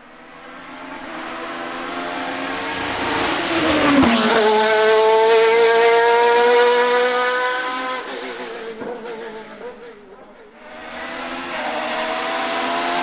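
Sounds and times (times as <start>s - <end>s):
race car passing and accelerating: 0.0s - 13.0s.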